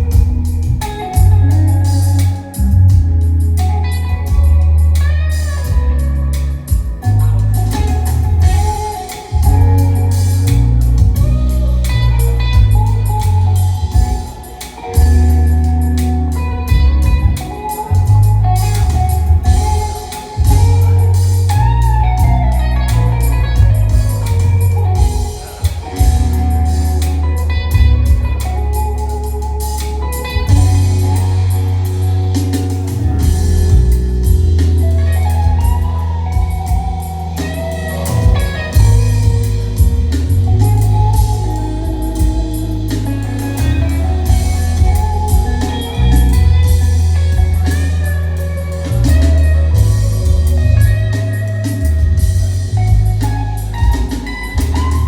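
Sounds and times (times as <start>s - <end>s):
synthesizer music with beat: 0.0s - 55.0s.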